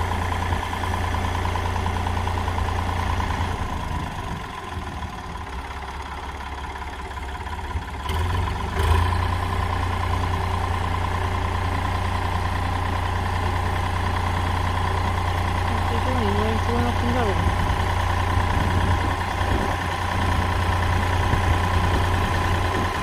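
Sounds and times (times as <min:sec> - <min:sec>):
tractor engine droning: 0:00.0 - 0:23.0.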